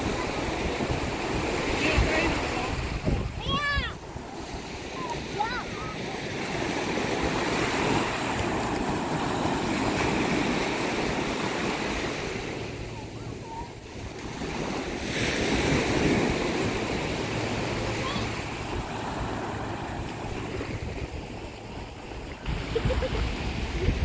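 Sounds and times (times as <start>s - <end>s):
small waves breaking on sand: 0.0s - 24.0s.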